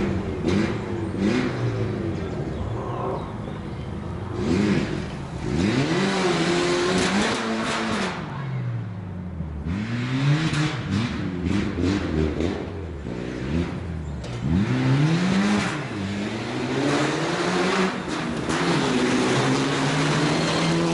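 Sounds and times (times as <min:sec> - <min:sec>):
rally car engine revving: 0:00.0 - 0:03.6, 0:04.2 - 0:20.9.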